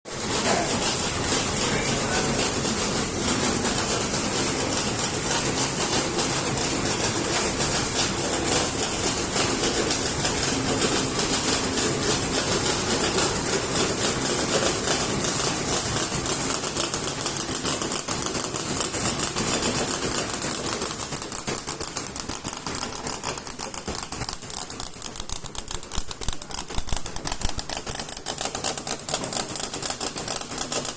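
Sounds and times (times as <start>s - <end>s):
printing machine clattering: 0.1s - 30.9s.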